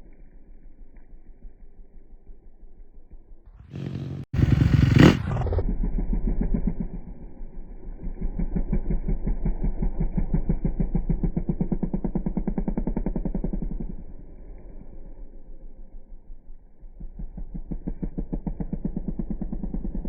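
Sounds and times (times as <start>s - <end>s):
engine running with rapid pulse: 0.0s - 20.0s.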